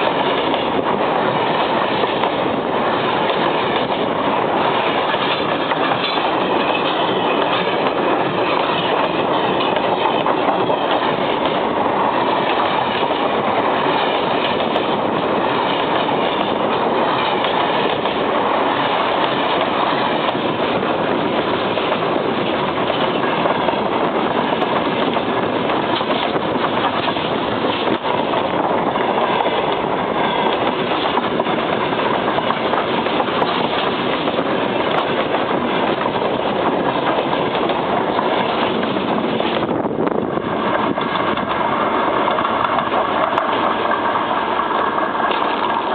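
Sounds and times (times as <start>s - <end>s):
train wheels rolling on rails: 0.0s - 45.9s.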